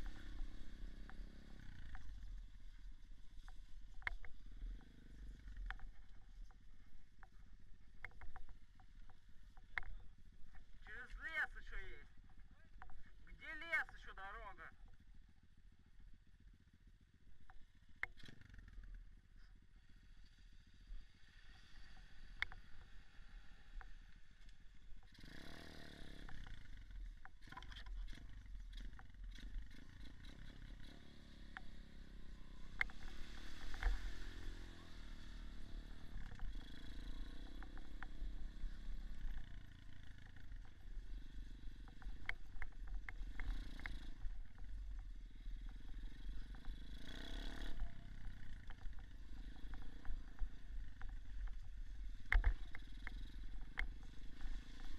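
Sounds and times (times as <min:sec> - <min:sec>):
motorcycle engine running: 0:00.0 - 0:14.1, 0:14.7 - 0:54.9.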